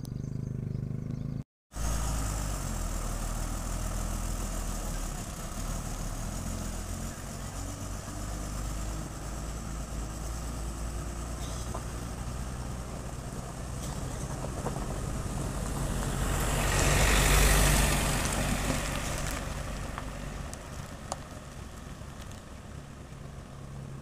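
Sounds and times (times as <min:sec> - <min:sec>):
vehicle engines humming: 0:00.0 - 0:24.0
vehicle passing by: 0:00.0 - 0:24.0.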